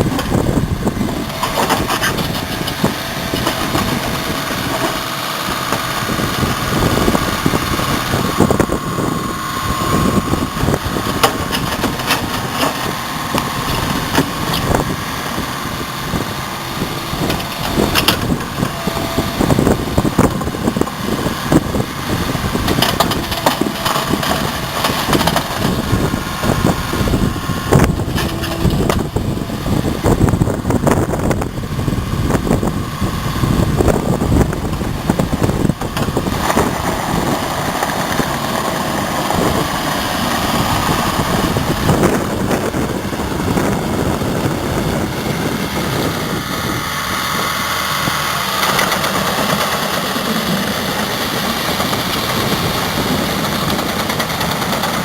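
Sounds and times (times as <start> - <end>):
diesel excavator engine running: 0.0 - 55.0.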